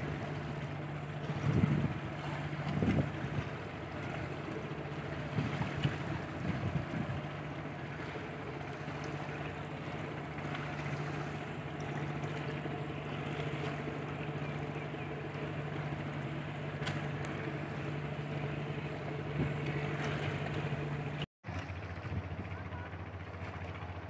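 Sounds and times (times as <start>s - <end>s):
harbour background noise: 0.0s - 24.0s
ship machinery humming: 0.0s - 24.0s.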